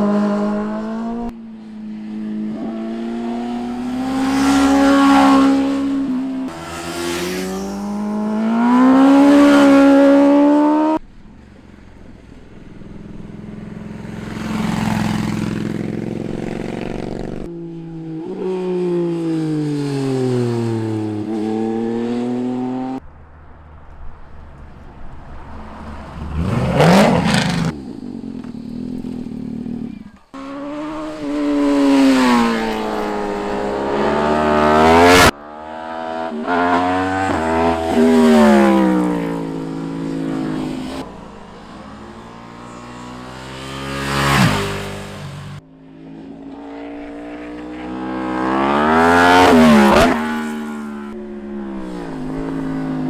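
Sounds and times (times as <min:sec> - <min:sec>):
motorcycles passing at speed: 0:00.0 - 0:53.0.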